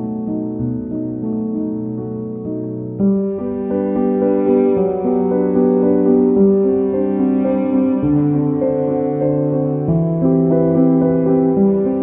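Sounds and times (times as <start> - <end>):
piano background music: 0.0 - 12.0.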